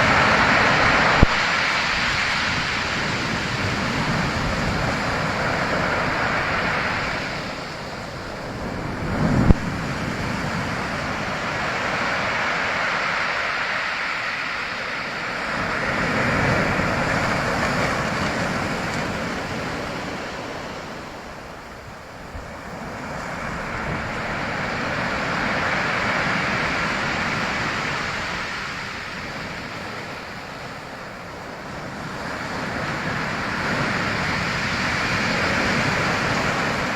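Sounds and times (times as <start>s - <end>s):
ocean waves breaking: 0.0s - 36.9s.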